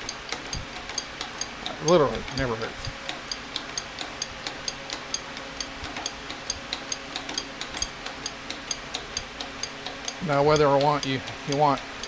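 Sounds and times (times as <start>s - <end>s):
light mechanical ticking: 0.0s - 12.0s.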